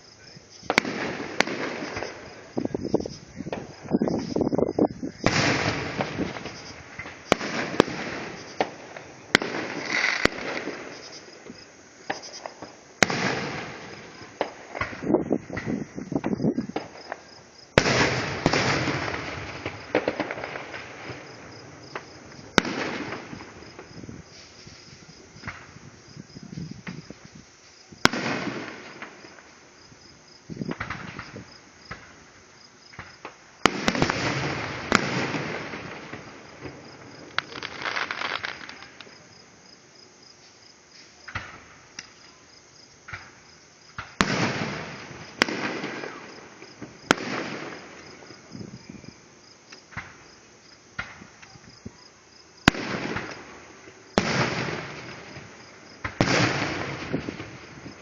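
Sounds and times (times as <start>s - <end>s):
fireworks bangs: 0.0s - 39.5s, 40.4s - 58.0s
fireworks crackle and rumble: 0.0s - 58.0s.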